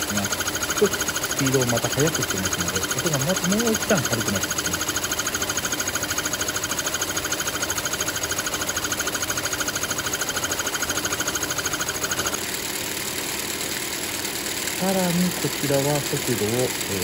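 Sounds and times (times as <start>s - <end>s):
smooth quiet machine noise: 0.0s - 17.0s.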